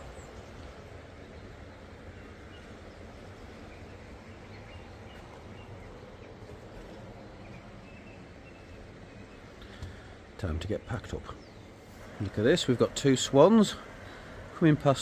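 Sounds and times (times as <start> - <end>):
river water rushing: 0.0 - 10.6, 11.6 - 15.0.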